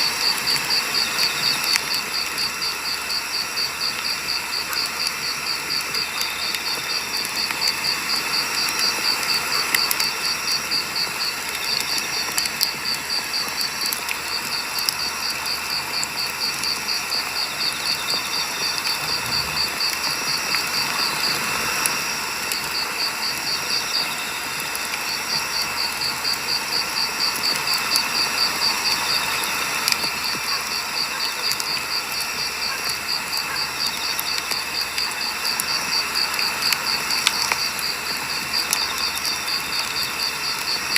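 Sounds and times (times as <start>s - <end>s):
campfire crackling and popping: 0.0s - 40.9s
cricket chirping: 0.0s - 40.9s.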